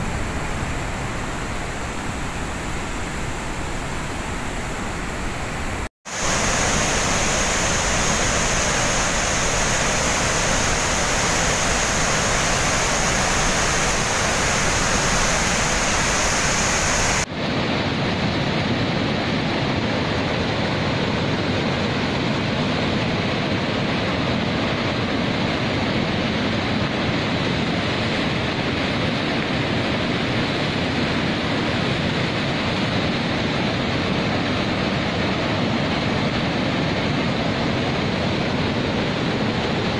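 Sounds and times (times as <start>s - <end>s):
rushing floodwater roar: 0.0s - 39.9s.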